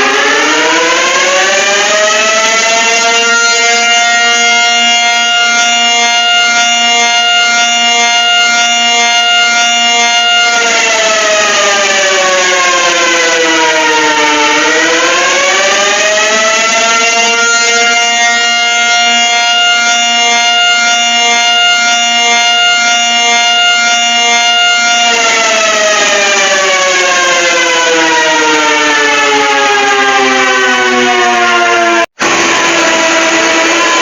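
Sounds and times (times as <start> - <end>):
alarm tone: 0.0 - 34.0
civil defense siren: 0.0 - 34.0.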